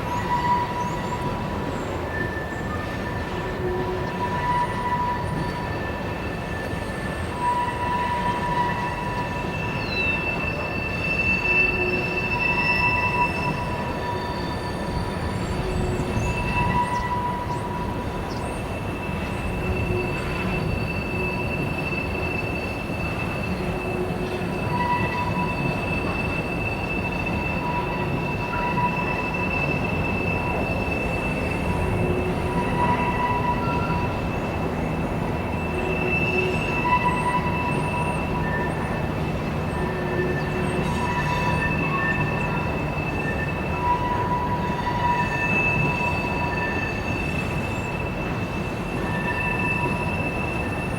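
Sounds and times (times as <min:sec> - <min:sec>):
train rolling rumble: 0:00.0 - 0:50.9
train wheels squealing on rail: 0:00.0 - 0:50.9.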